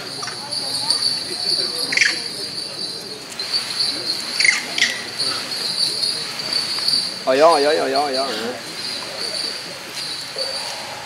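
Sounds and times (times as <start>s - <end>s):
insects droning: 0.0s - 11.0s
murmur of crowd voices: 0.0s - 11.0s.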